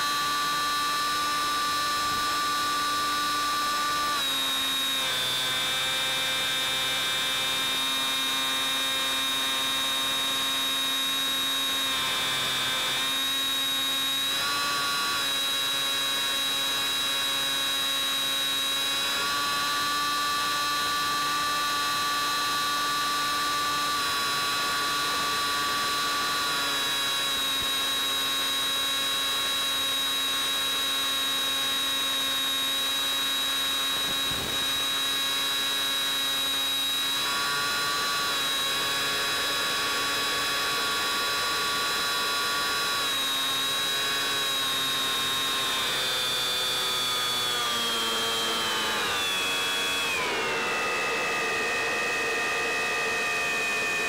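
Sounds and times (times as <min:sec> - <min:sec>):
electric motor and propeller whining: 0:00.0 - 0:54.0.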